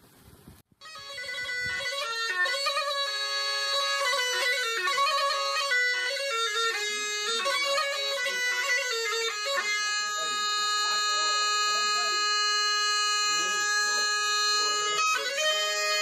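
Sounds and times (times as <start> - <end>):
bagpipe melody: 0.8 - 16.0.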